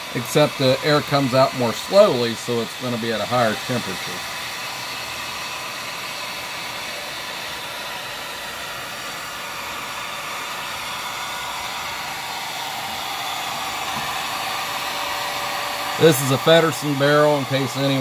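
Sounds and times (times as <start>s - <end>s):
heat gun blowing hot air: 0.0s - 18.0s.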